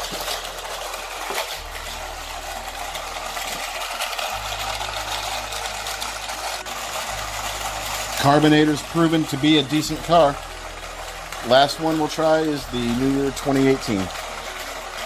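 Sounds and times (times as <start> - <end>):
toy car clattering on plastic track: 0.0 - 15.0
toy track booster motor whirring: 0.0 - 15.0.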